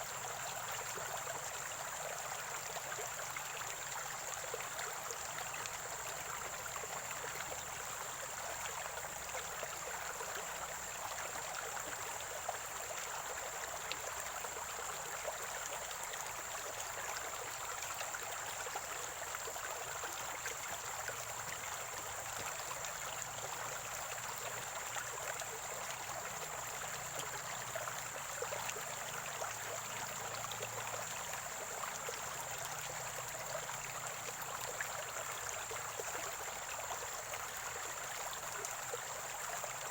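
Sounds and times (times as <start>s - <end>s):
stream gurgling and trickling: 0.0s - 39.9s.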